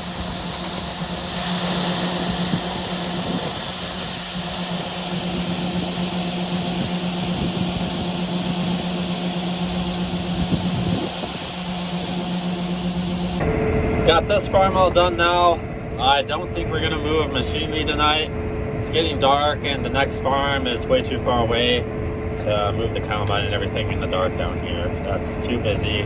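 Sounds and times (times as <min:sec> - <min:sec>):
farm machinery engine drone: 0:00.0 - 0:26.0
high whine: 0:00.0 - 0:26.0.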